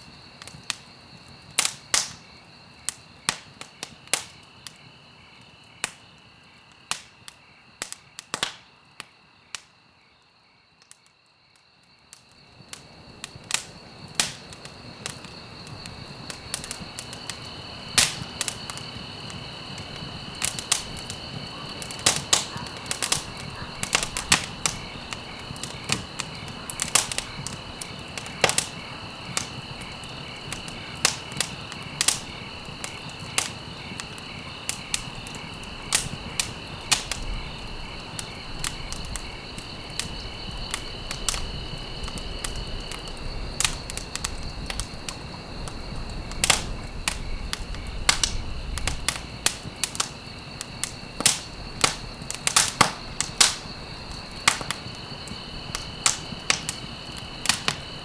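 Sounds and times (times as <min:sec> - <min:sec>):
wood fire crackling and popping: 0:00.0 - 0:09.8, 0:11.9 - 0:58.0.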